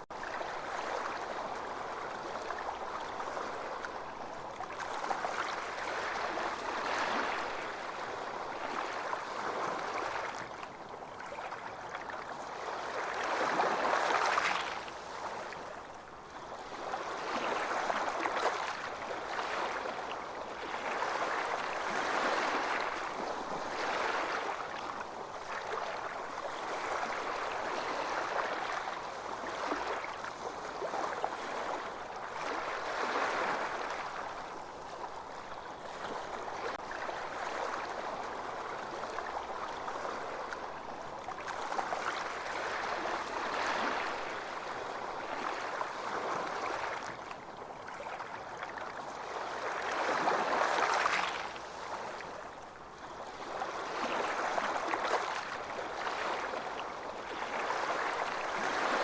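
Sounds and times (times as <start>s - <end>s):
ocean waves washing ashore: 0.0s - 48.2s, 49.0s - 59.0s.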